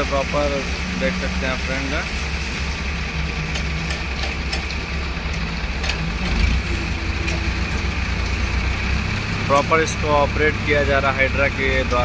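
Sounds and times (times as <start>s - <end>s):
crane engine droning: 0.0s - 12.0s.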